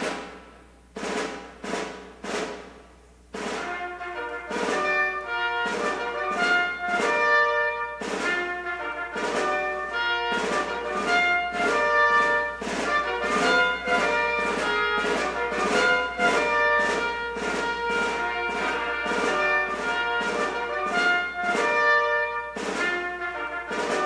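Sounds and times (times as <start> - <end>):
orchestral music led by brass: 3.6 - 24.0.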